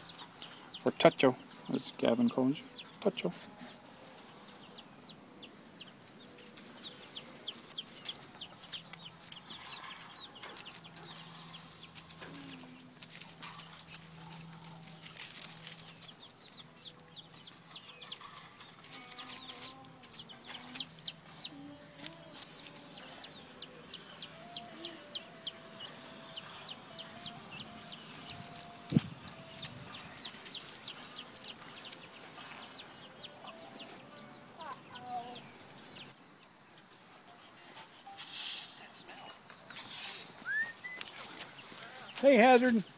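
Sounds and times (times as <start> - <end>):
chicks peeping: 0.0 - 37.5, 38.2 - 42.9.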